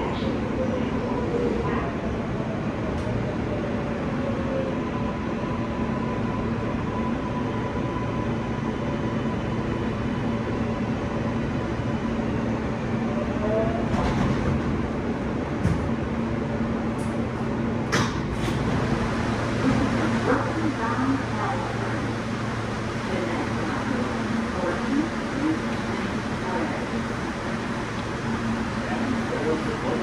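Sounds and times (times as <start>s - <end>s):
subway car rumble: 0.0s - 30.0s.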